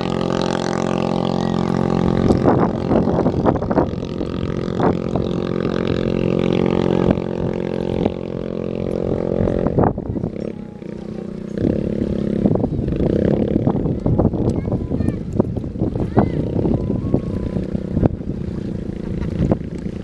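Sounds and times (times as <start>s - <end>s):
boat engine at high revs: 0.0s - 20.0s.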